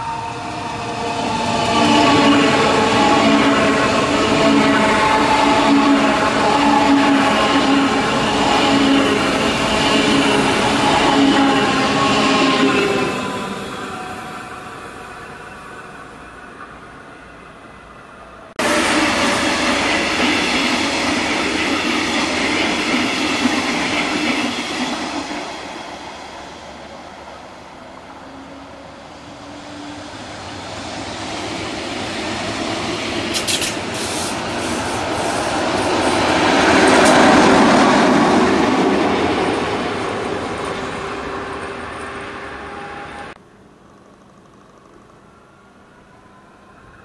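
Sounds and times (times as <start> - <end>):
train wheels rumbling on rail: 0.0 - 16.9, 18.6 - 45.2.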